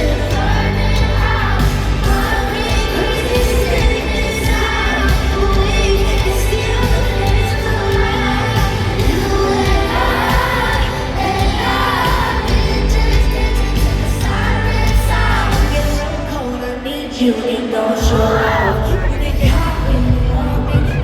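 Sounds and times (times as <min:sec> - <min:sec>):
heavy bass-driven backing: 0:00.0 - 0:16.4, 0:18.2 - 0:21.0
live pop song vocals: 0:00.0 - 0:21.0.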